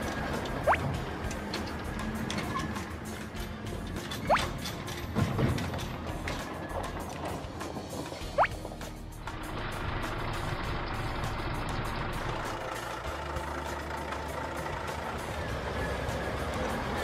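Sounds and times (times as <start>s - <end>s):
cartoon truck engine running: 0.0s - 4.9s, 6.9s - 17.0s.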